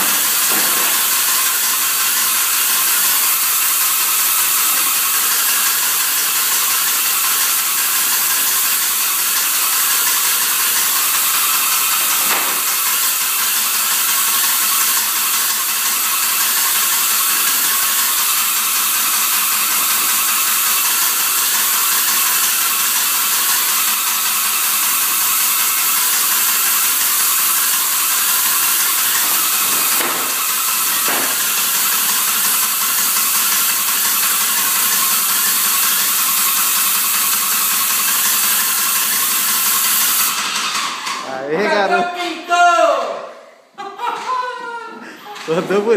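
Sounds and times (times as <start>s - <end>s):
machine rattling buzz: 0.0s - 41.6s.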